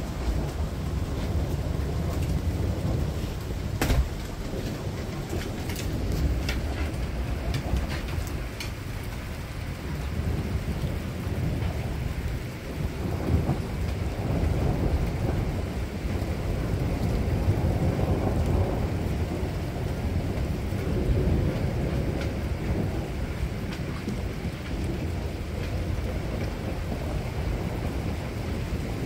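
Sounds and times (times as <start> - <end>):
thunder rumbling: 0.0 - 29.0.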